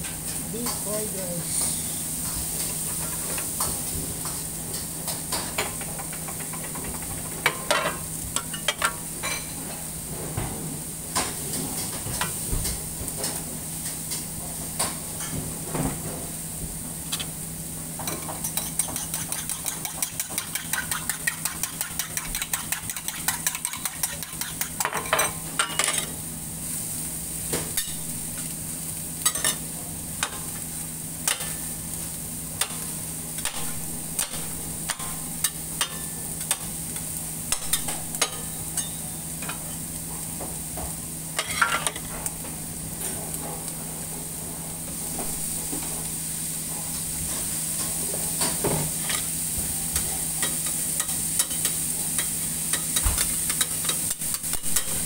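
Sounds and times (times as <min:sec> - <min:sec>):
meat and vegetables sizzling on griddle: 0:00.0 - 0:10.1, 0:10.8 - 0:55.0.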